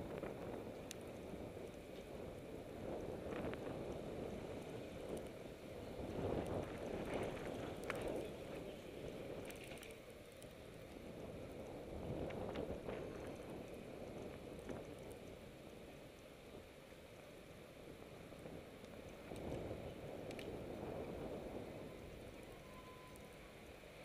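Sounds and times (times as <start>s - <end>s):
wind rushing over microphone: 0.0s - 10.0s, 10.7s - 16.7s, 17.8s - 22.8s
bicycle tyre rumble on asphalt: 0.0s - 24.0s
faint ticks: 0.1s - 17.6s, 18.2s - 23.5s.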